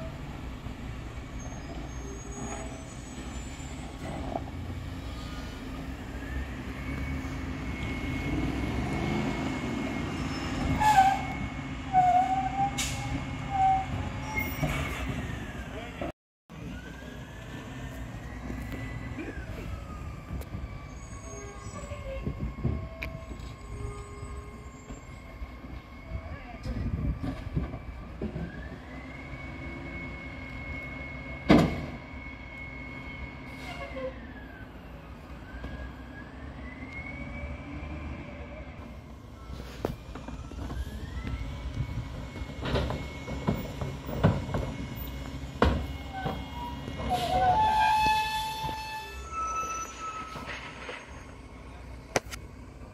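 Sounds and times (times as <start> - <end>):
garbage truck diesel engine rumbling: 0.0 - 52.9.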